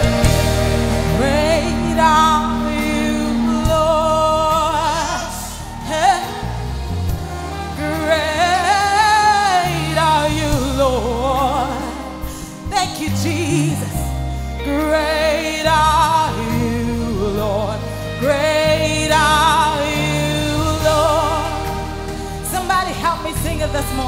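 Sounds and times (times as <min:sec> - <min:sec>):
band sustained low chords: 0:00.0 - 0:24.0
person singing long wavering notes: 0:00.0 - 0:24.0.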